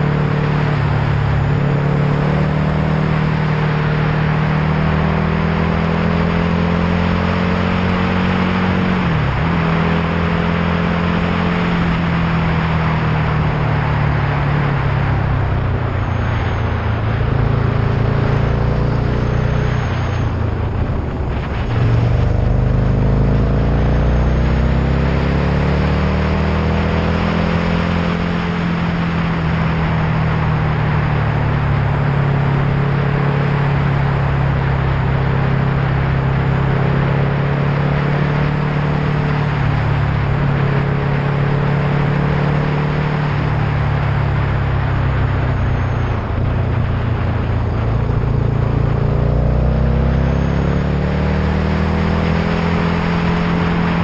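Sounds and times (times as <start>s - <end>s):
vehicle engine running: 0.0s - 54.0s
wind and road noise: 0.0s - 54.0s.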